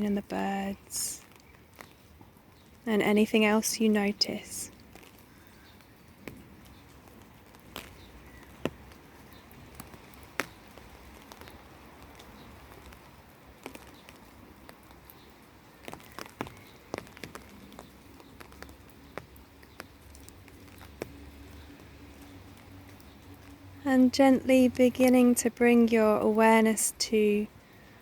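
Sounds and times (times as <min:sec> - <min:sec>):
rain drops tapping: 0:00.0 - 0:28.0.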